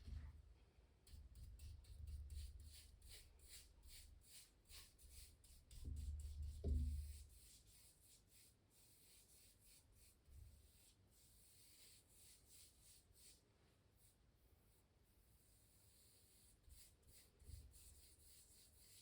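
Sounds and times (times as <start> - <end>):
scratchy tool strokes on canvas: 1.4 - 19.0.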